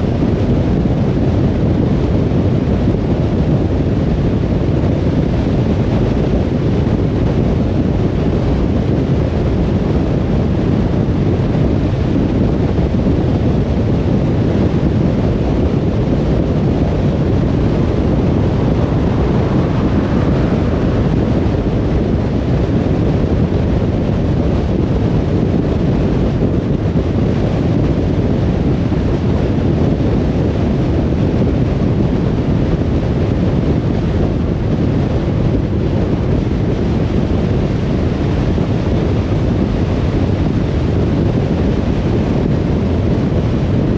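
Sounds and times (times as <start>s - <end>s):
car road noise: 0.0s - 43.9s.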